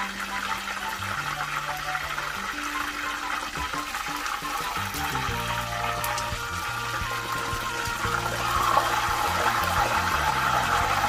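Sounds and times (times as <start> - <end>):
background music with bass notes: 0.0 - 11.0.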